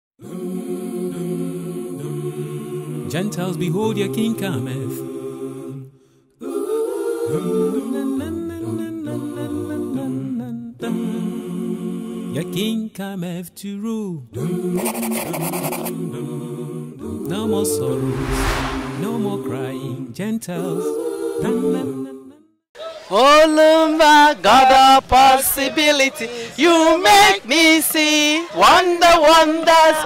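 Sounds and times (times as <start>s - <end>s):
a cappella singing: 0.2s - 30.0s.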